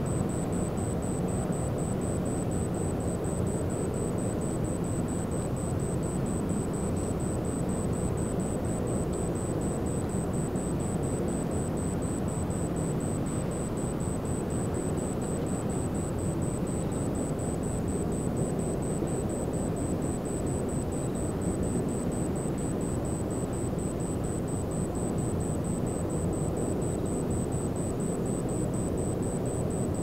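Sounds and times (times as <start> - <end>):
faint pulsing high tone: 0.0 - 30.0.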